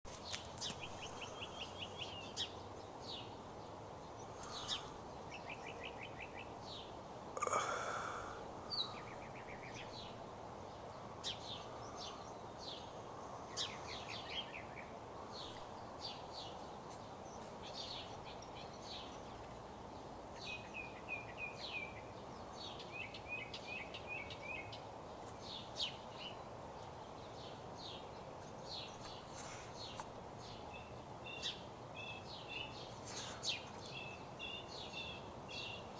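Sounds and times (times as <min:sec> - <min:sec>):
small birds chirping: 0:00.1 - 0:35.9
steady background noise: 0:00.1 - 0:35.9.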